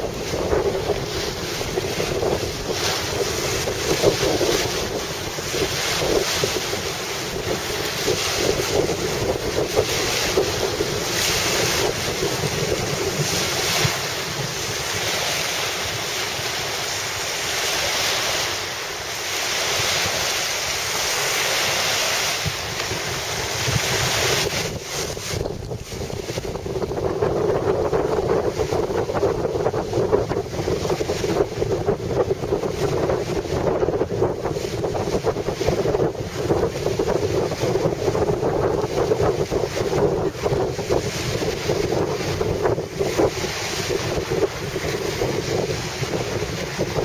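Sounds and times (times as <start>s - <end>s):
choppy sea waves: 0.0s - 47.0s
wind buffeting microphone: 0.0s - 47.0s.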